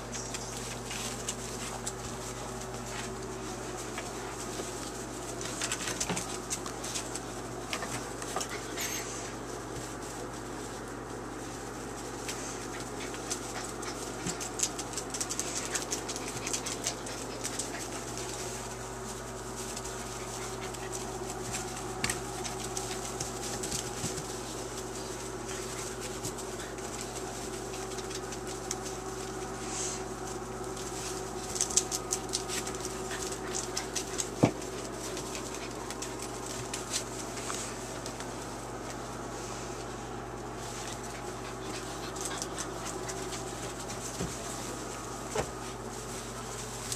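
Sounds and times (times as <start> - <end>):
paws scratching in wood shavings: 0.0 - 46.9
puppies panting: 0.0 - 46.9
steady hum: 0.0 - 46.9.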